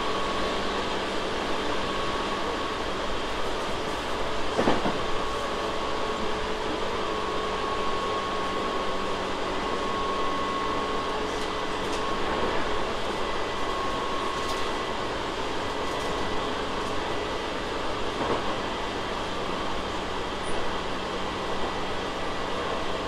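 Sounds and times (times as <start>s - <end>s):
train equipment hum: 0.0s - 23.0s.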